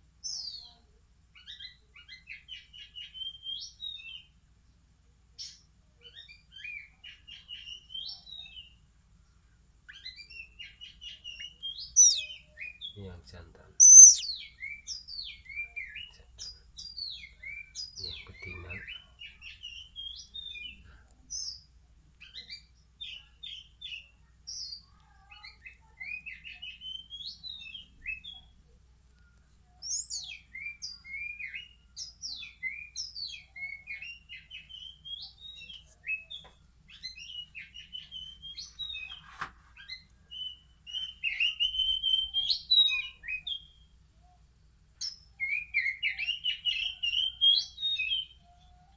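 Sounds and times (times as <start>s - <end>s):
young birds chirping and twittering: 0.2s - 4.4s, 5.4s - 48.9s.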